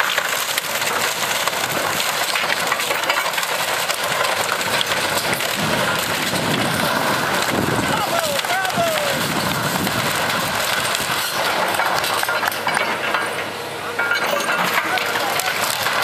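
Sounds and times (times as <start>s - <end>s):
debris cracking and crunching: 0.0s - 16.0s
heavy machine engine running: 0.0s - 16.0s.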